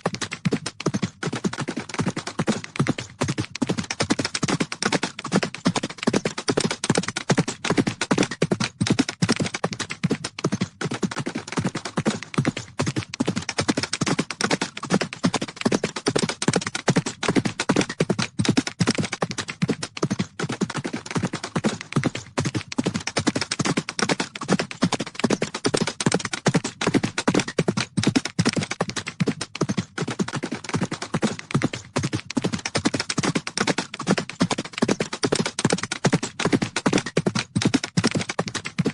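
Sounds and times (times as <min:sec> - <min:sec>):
horses galloping: 0:00.0 - 0:38.9.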